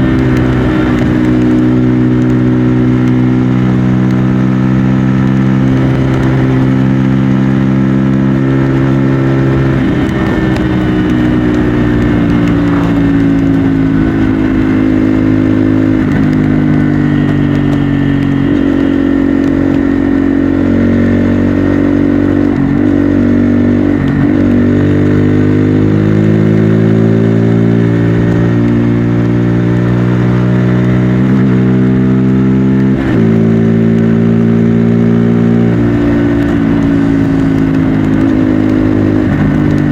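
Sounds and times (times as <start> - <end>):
motorcycle engine on the road: 0.0 - 39.9.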